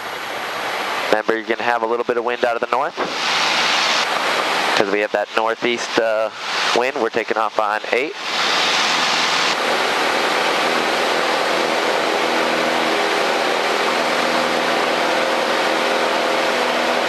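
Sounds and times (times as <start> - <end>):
light aircraft engine drone: 0.0 - 17.0
wind and propeller noise: 0.0 - 17.0.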